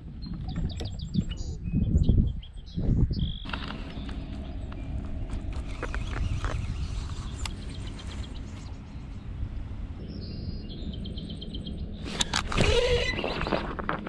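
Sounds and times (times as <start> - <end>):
birds chirping: 0.0 - 13.9
wind on microphone: 0.0 - 14.0.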